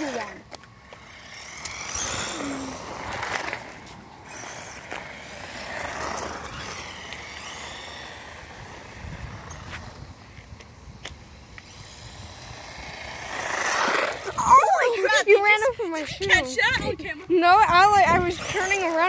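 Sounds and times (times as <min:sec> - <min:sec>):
electric motor whining: 0:00.0 - 0:15.0, 0:16.2 - 0:19.0
tyres rumbling on pavement: 0:00.0 - 0:19.0.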